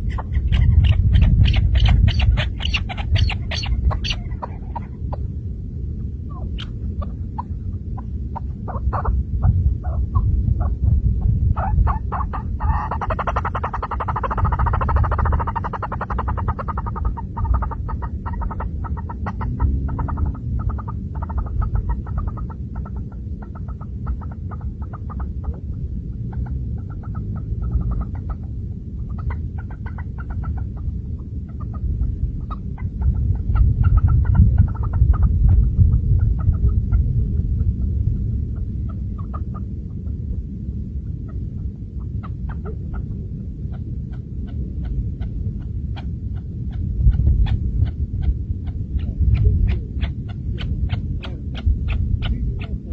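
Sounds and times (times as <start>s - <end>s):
partridge clucking calls: 0.0s - 5.0s, 6.3s - 10.8s, 11.6s - 25.7s, 26.3s - 37.0s, 38.9s - 39.7s, 42.2s - 44.6s, 46.0s - 52.9s
low rumble: 0.0s - 52.9s.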